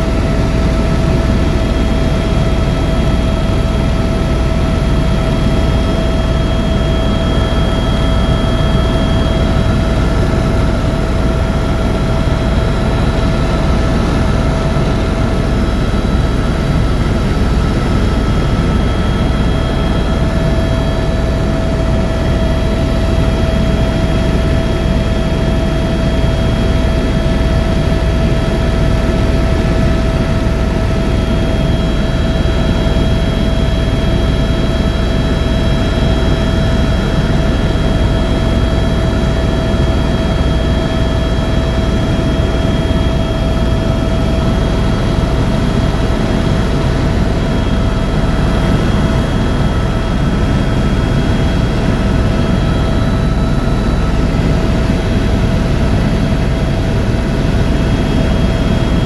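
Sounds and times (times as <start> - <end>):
helicopter rotor and turbine noise: 0.0 - 59.0.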